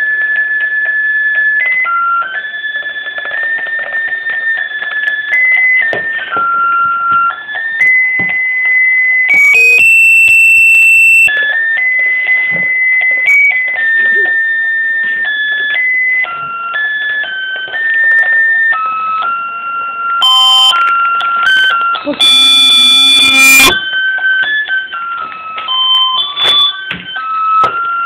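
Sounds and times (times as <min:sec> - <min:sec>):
electronic toy beeping tune: 0:00.2 - 0:28.0.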